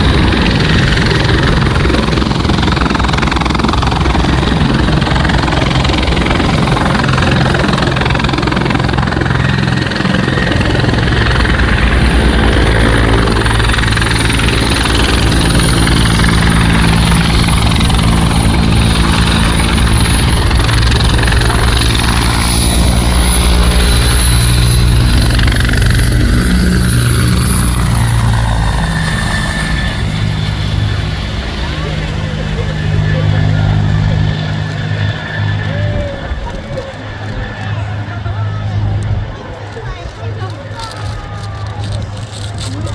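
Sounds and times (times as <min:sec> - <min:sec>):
helicopter rotor beat: 0:00.0 - 0:42.9
turbine whine: 0:00.0 - 0:42.9.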